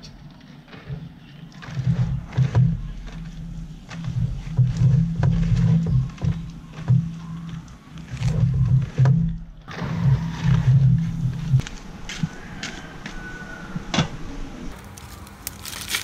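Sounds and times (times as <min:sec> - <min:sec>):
low uneven rumble: 0:00.0 - 0:16.0.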